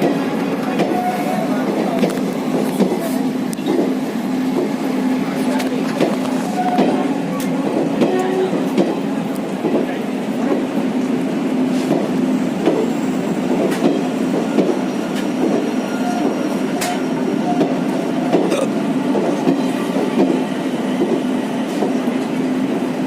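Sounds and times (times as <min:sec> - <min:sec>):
train running noise: 0:00.0 - 0:23.0.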